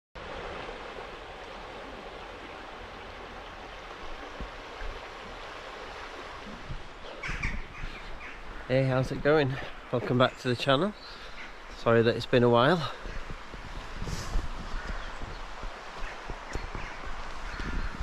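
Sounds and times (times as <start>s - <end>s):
flowing water: 0.2s - 18.0s.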